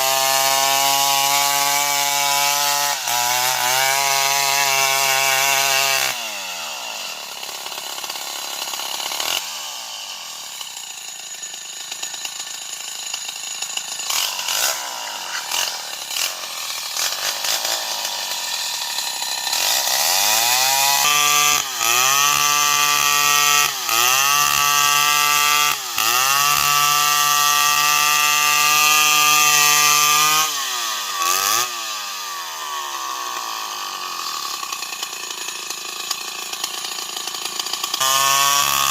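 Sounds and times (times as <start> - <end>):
chainsaw engine revving and idling: 0.0 - 38.9.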